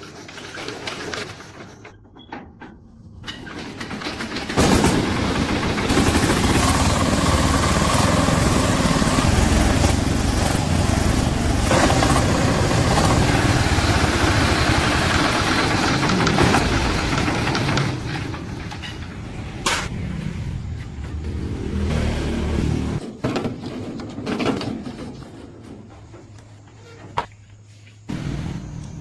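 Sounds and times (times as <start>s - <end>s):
engine starting and running: 2.9s - 26.2s, 28.1s - 29.0s.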